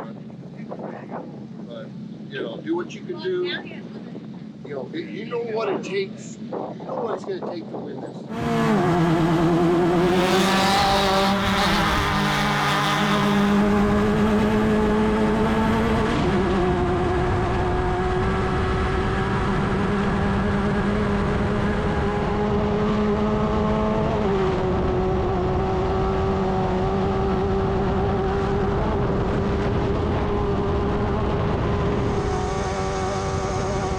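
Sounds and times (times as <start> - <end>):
race car engine running hard: 5.8 - 33.9.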